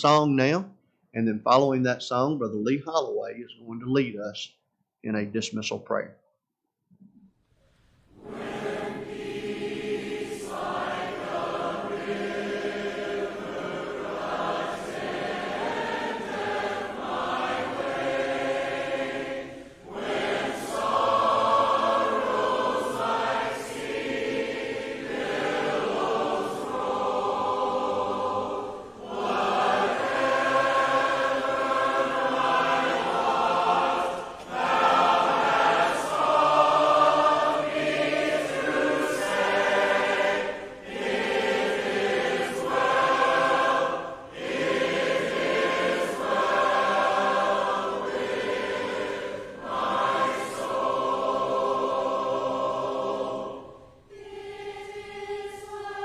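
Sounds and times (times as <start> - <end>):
group singing a cappella hymn: 8.1 - 56.0.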